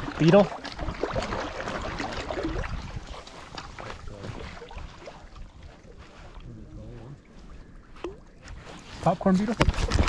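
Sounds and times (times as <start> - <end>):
lake waves lapping and splashing: 0.0 - 10.0.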